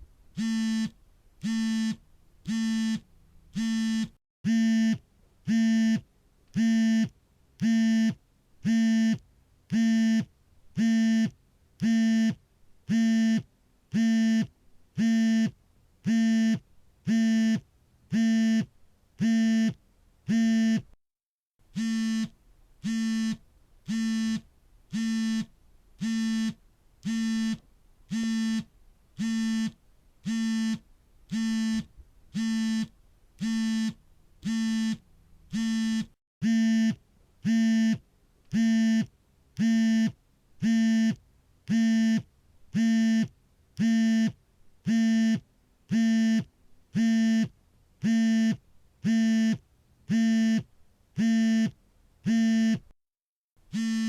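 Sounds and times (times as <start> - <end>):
smartphone vibrating buzz: 0.4 - 6.0, 6.6 - 20.9, 21.7 - 52.9, 53.7 - 54.0.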